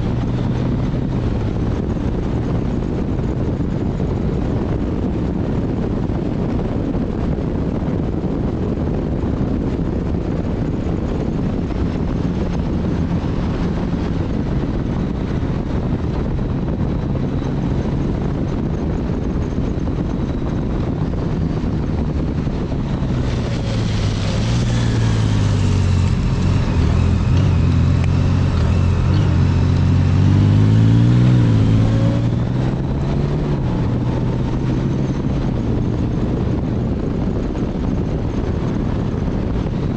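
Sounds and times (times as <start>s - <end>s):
heavy wind noise: 0.0s - 39.9s
motorcycle engine running: 0.0s - 39.9s.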